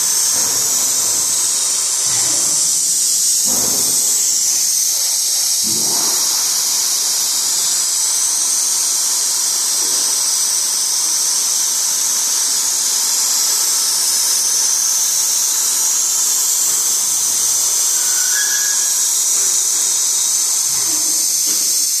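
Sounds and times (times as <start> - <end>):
mist sprayer hissing: 0.0 - 22.0.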